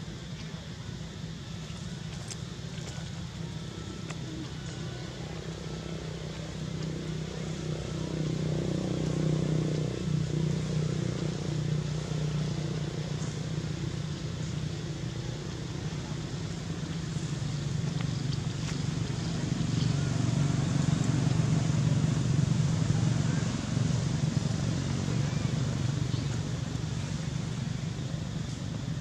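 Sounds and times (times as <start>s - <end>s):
motor engine humming: 0.0s - 29.0s.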